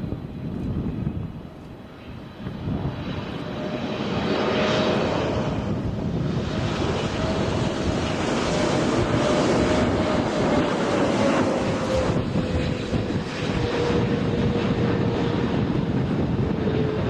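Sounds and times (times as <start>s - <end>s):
jet engine rumble: 0.0s - 17.0s
jet engine whine: 0.0s - 17.0s.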